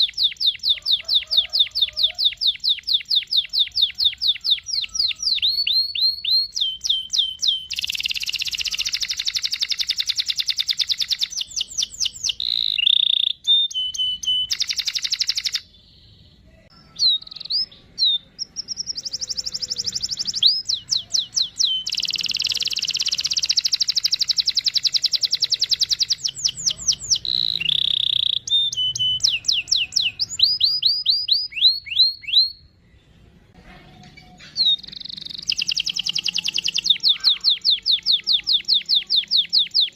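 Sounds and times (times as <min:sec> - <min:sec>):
canary singing trills: 0:00.0 - 0:33.3, 0:34.0 - 0:39.9.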